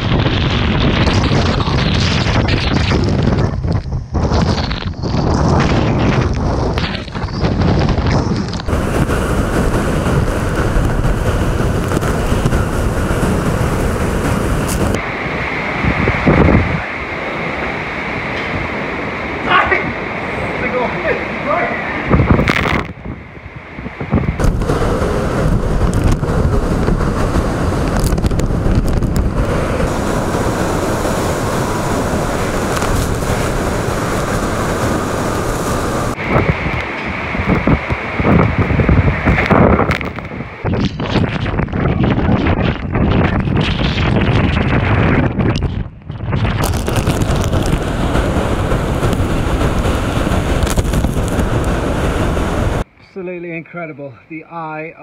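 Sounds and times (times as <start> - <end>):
strong wind buffeting microphone: 0.0 - 53.2.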